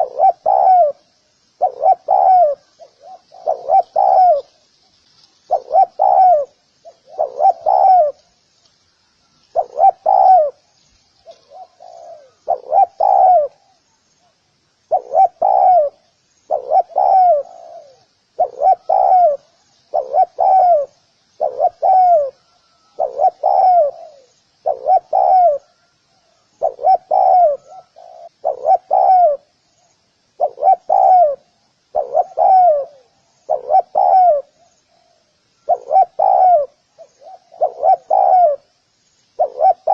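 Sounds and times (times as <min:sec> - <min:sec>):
dove cooing: 0:00.0 - 0:04.6, 0:05.4 - 0:08.3, 0:09.4 - 0:14.3, 0:14.9 - 0:29.6, 0:30.3 - 0:38.8, 0:39.4 - 0:39.9
faint high chirping: 0:00.0 - 0:39.9.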